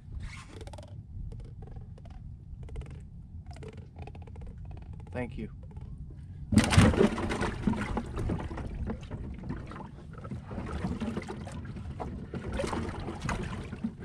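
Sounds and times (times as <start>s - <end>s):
wind rumbling on microphone: 0.0s - 14.0s
water lapping at boat: 0.2s - 14.0s.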